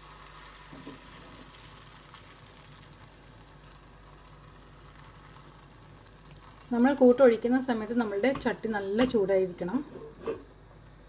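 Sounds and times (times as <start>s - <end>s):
batter sizzling in a pan: 0.0s - 11.0s.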